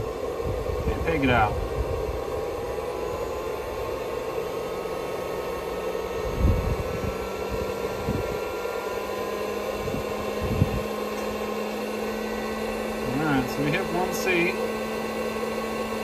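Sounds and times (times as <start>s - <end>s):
faint rising whine: 0.0s - 16.0s
fans running: 0.0s - 16.0s.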